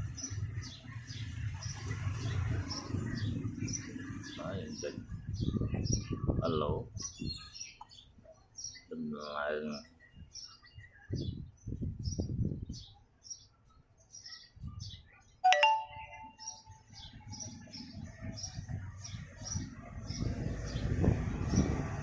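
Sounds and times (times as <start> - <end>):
bird chirping: 0.0 - 21.8.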